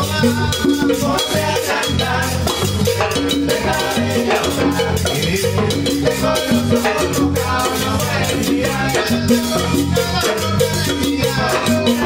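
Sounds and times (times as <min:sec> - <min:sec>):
live band playing dance music: 0:00.0 - 0:12.0
voices singing: 0:00.0 - 0:12.0.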